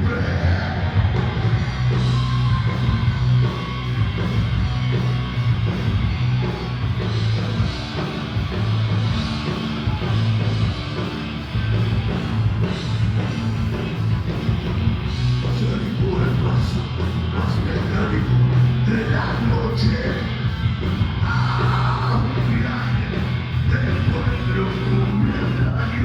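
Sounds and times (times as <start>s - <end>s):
bass guitar: 0.0s - 26.0s
distorted electric guitar: 0.0s - 26.0s
drum kit: 0.0s - 26.0s.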